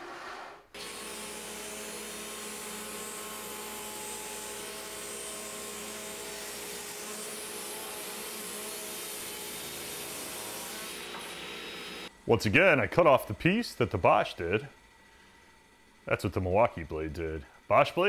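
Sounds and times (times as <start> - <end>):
saw blade cutting wood: 0.0 - 14.8
table saw motor whining: 0.0 - 18.0.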